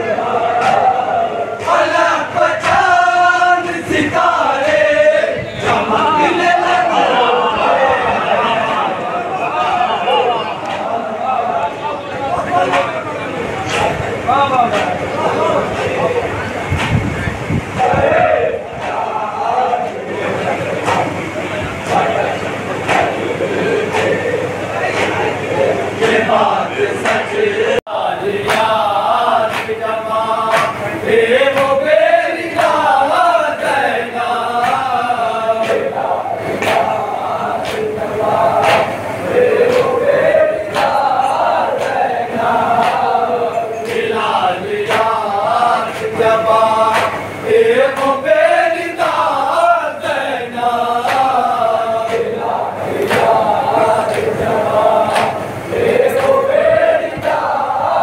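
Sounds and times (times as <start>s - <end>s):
men chanting in unison: 0.0s - 16.6s, 17.7s - 58.0s.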